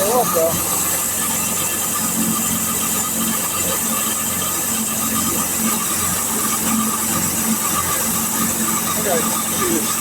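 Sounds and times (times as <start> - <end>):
constant whine: 0.0 - 10.0
sawmill engine running: 0.0 - 10.0.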